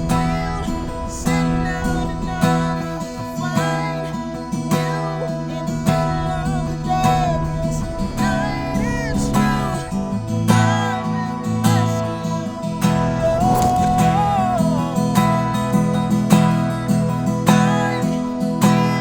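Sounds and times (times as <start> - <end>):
acoustic guitar strummed chords: 0.0 - 19.0
sliding guitar melody: 0.0 - 19.0.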